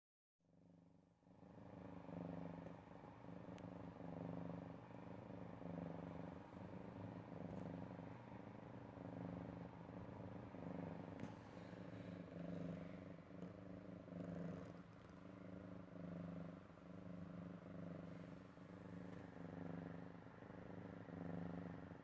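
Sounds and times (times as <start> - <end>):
cat snoring: 0.5 - 22.0.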